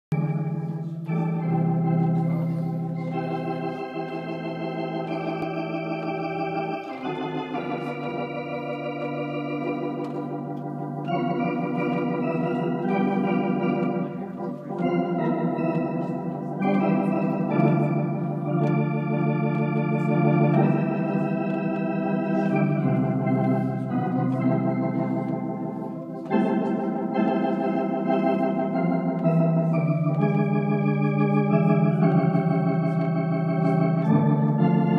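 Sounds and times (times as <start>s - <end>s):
electronic organ chords: 0.1s - 34.9s.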